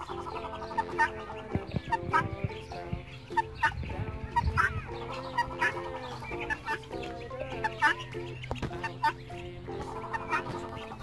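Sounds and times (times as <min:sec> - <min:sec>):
background music with held notes: 0:00.0 - 0:11.0
guineafowl calling: 0:00.0 - 0:11.0.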